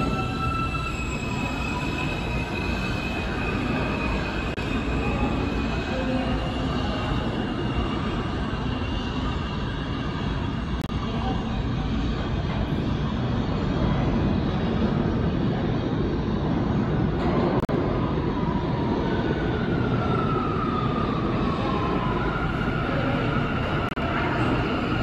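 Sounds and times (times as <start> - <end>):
faint train whine: 0.0 - 25.0
subway train rail rumble: 0.0 - 25.0.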